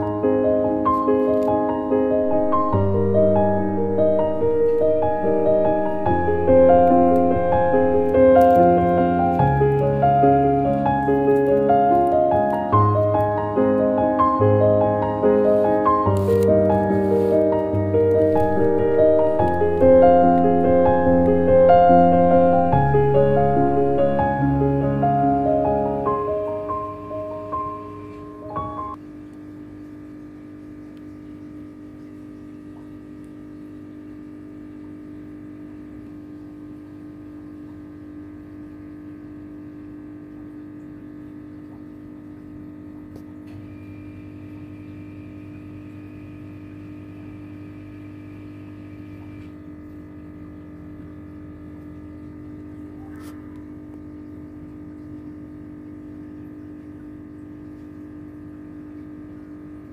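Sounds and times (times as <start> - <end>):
faint high whine: 0.0 - 59.9
machine hum: 0.0 - 59.9.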